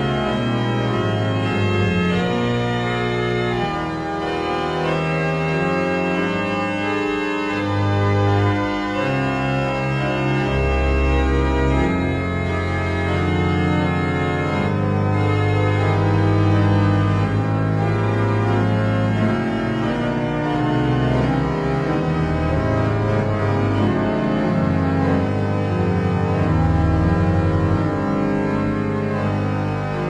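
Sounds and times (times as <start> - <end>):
organ-like chords: 0.0 - 30.0.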